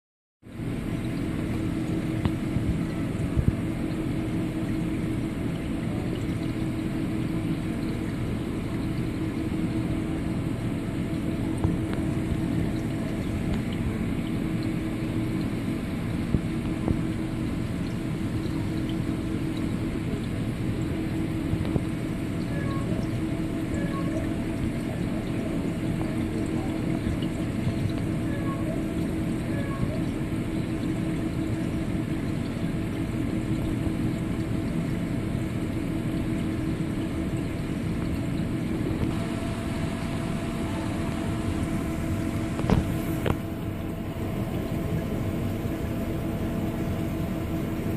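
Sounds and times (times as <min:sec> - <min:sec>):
bubbling water rushing: 0:00.4 - 0:47.9
water pump humming: 0:00.4 - 0:47.9.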